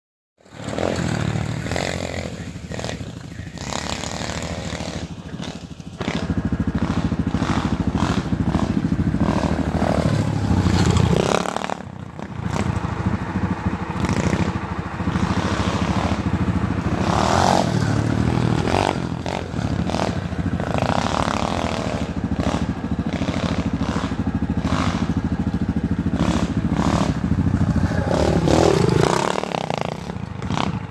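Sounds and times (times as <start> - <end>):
dirt bike engine revving: 0.4 - 30.9.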